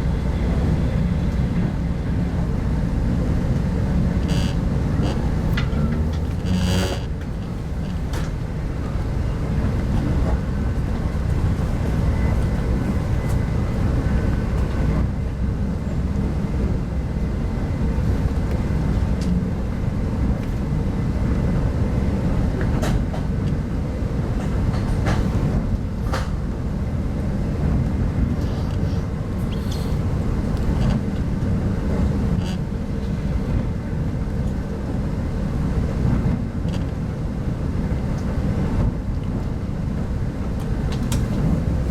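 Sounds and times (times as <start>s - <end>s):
train coach rumbling: 0.0s - 41.9s.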